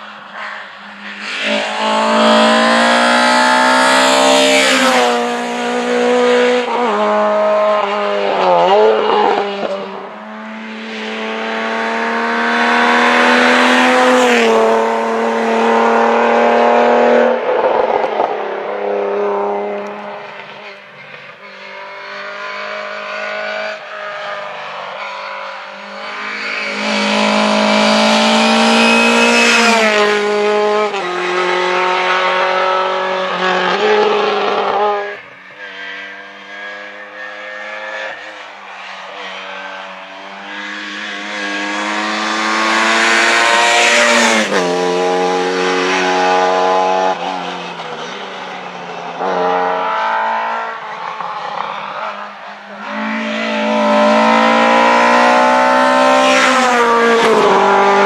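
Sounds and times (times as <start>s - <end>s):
rally cars passing at speed: 0.0s - 58.0s.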